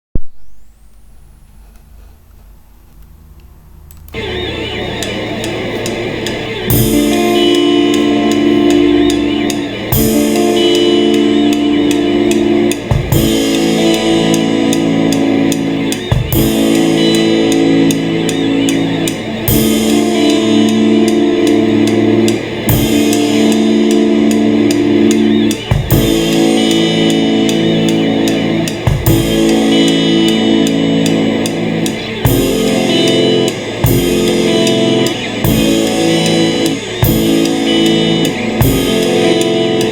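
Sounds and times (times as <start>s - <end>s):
instrumental rock music: 3.2s - 39.9s
drum and cymbal hits: 4.2s - 39.9s.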